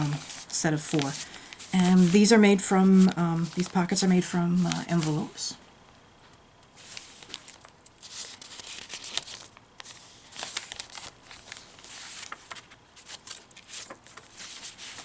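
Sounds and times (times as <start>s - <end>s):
paper rustling and crinkling: 0.0s - 5.4s, 6.7s - 15.0s.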